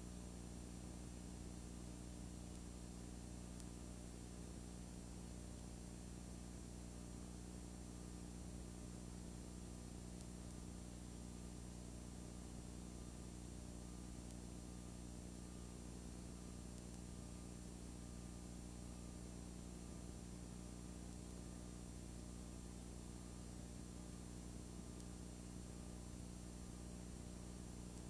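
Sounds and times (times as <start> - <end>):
low electrical hum: 0.0 - 28.0
tape hiss: 0.0 - 28.0.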